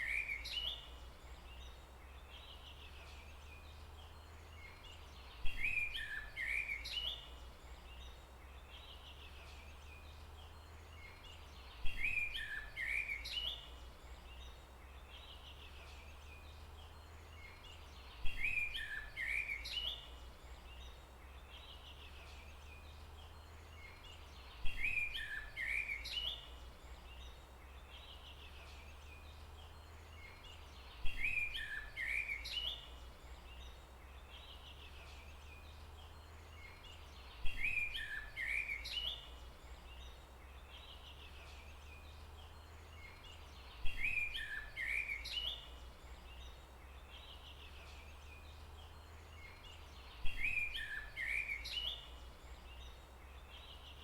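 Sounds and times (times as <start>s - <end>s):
bird chirping song: 0.0s - 54.0s
faint background hiss: 0.0s - 54.0s.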